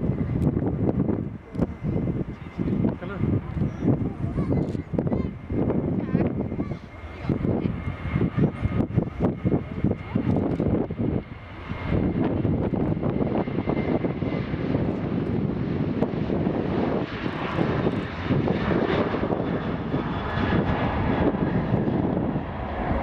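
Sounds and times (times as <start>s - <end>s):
jet engines running at high power: 0.0s - 23.0s.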